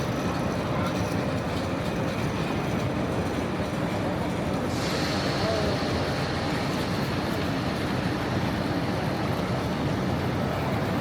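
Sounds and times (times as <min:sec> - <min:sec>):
busy railway station rumble: 0:00.0 - 0:11.0.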